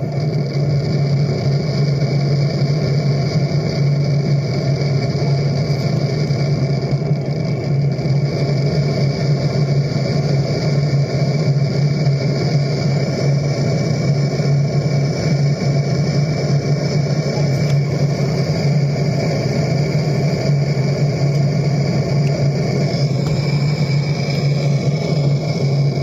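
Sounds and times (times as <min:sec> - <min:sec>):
hiss: 0:00.0 - 0:26.0
machine hum: 0:00.0 - 0:26.0.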